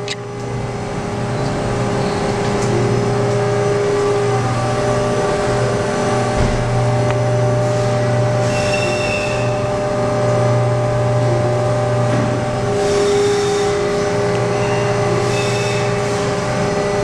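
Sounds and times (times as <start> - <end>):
machining center mechanical hum: 0.0 - 17.0.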